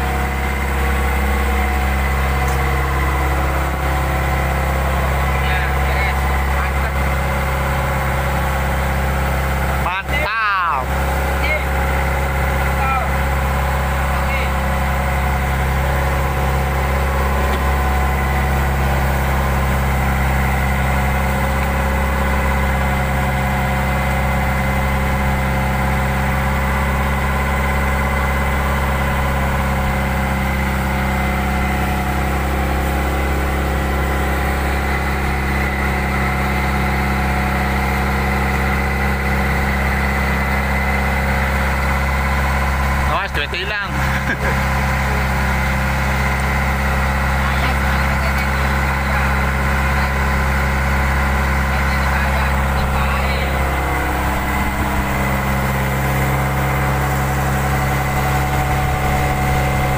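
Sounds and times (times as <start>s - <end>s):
boat diesel engine running: 0.0s - 59.9s.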